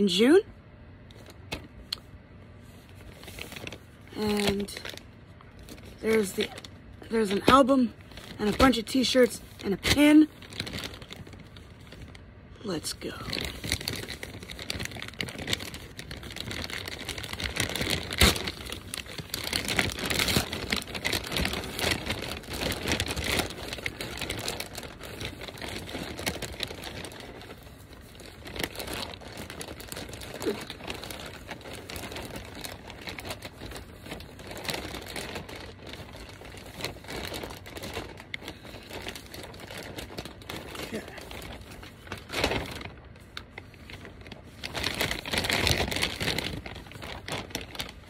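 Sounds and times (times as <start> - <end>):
packaging crinkling and rustling: 0.9 - 48.0.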